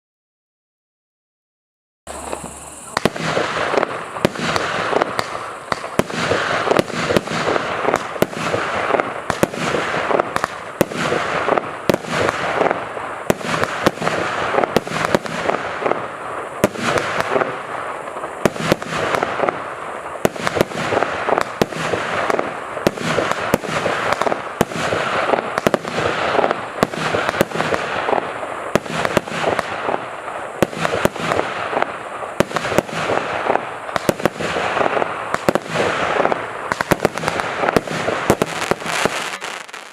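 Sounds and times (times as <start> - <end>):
firework hiss: 2.1 - 39.9
firework shots and bursts: 2.1 - 39.9.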